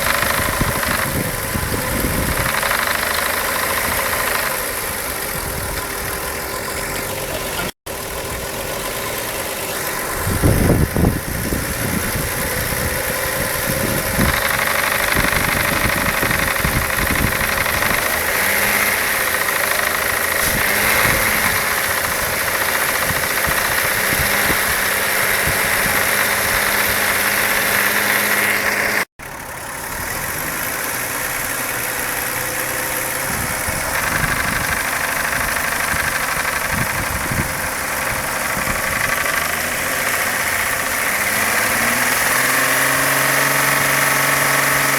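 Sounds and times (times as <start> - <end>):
car engine rattling: 0.0 - 44.9.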